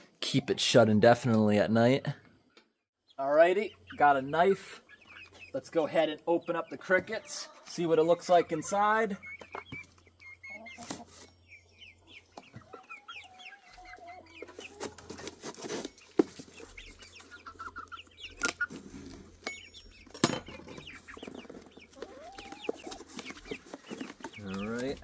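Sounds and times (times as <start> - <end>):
chickens clucking and chirping: 0.2 - 25.0.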